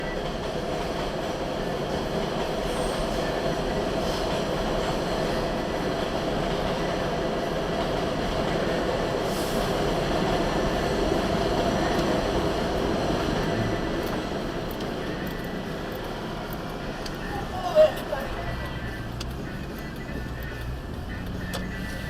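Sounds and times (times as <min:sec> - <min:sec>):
subway train running on tracks: 0:00.0 - 0:22.0.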